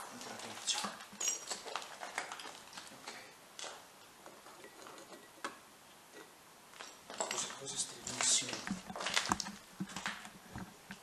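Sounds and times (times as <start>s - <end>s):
faint clicks and crackles: 0.1s - 11.0s.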